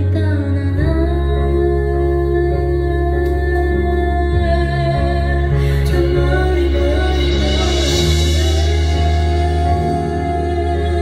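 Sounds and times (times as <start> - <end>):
instrumental accompaniment: 0.0 - 11.0
woman singing into a microphone: 0.0 - 11.0.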